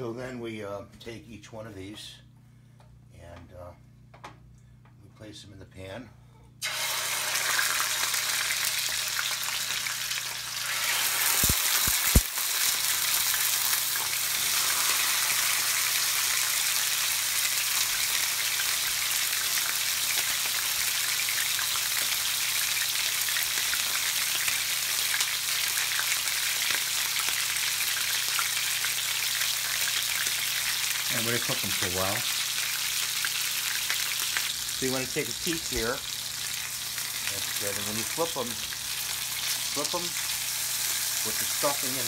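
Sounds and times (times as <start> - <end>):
chicken sizzling in frying pan: 6.6 - 42.0.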